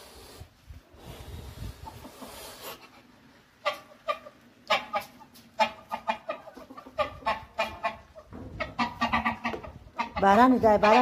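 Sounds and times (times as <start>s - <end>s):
poultry calling: 1.9s - 11.0s.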